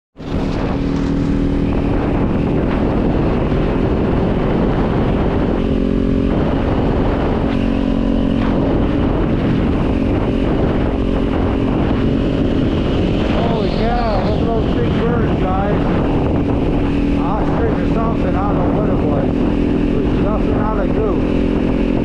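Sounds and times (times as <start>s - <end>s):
motorcycle engine running: 0.2s - 22.0s.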